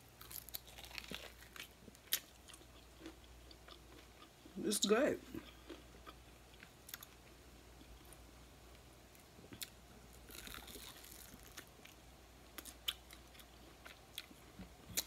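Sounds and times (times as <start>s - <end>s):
chewing crispy fried meat: 0.1s - 4.6s, 5.4s - 15.0s.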